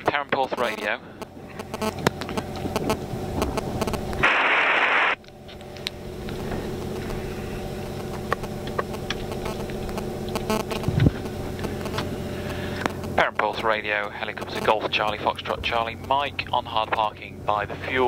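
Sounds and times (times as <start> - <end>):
loud burst of static: 0.0 - 5.2, 6.7 - 16.3
radio hiss and static: 0.0 - 5.2, 6.0 - 18.0
electrical hum: 0.0 - 18.0.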